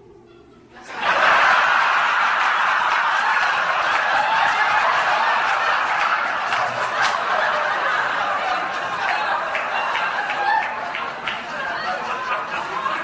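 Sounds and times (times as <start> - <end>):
audience laughing: 0.8 - 13.0.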